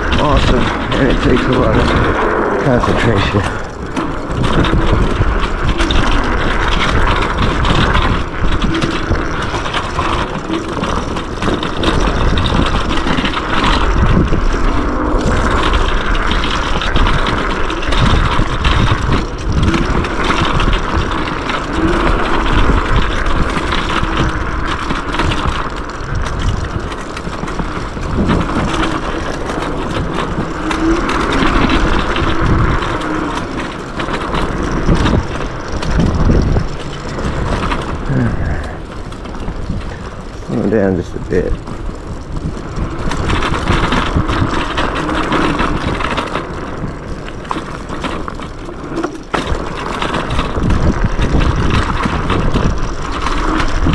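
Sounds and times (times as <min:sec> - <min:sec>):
scooter rattling over bumps: 0:00.0 - 0:53.9
tyres rumbling over dirt: 0:00.0 - 0:53.9.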